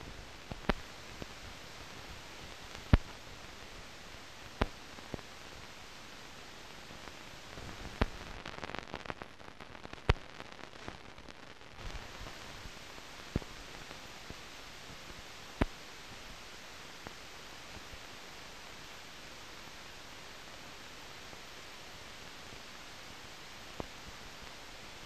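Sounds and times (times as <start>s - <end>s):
crackle: 0.0s - 25.0s
film soundtrack hiss: 0.0s - 25.0s.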